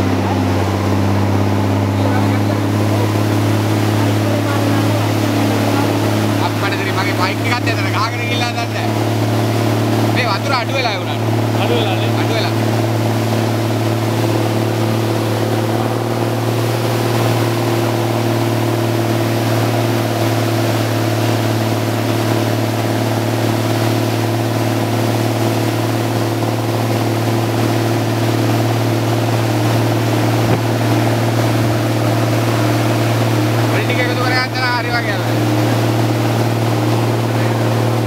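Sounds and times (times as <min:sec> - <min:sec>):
engine running steadily: 0:00.0 - 0:38.0
rushing floodwater: 0:00.0 - 0:38.0.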